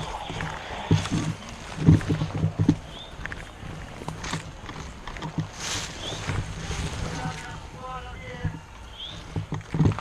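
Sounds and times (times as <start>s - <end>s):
footsteps: 0.0s - 10.0s
rustling: 0.0s - 10.0s.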